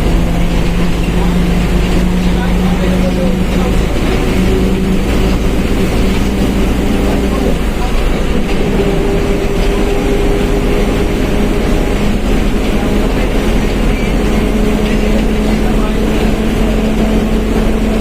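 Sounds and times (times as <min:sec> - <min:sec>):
bus diesel drone: 0:00.0 - 0:18.0
differential whine: 0:00.0 - 0:18.0.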